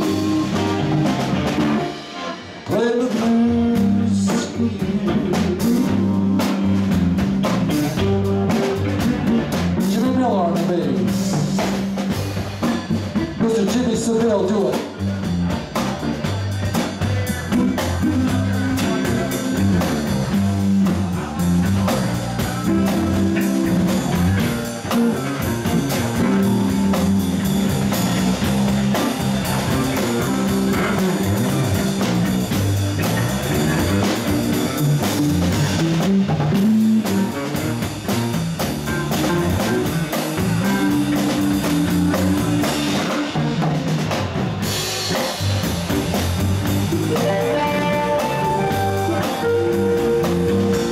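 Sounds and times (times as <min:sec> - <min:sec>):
drum kit beat: 0:00.0 - 0:50.9
electric guitar: 0:00.0 - 0:50.9.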